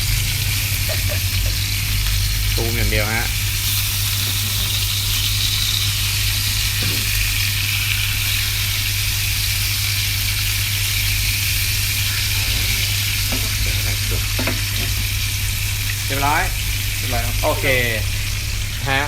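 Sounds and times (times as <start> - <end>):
steak sizzling in frying pan: 0.0 - 19.0.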